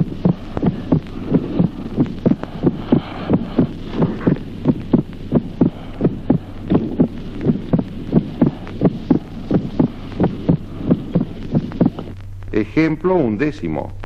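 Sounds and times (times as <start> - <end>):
heartbeat low thuds: 0.0 - 12.5
steady low hum: 0.0 - 14.0.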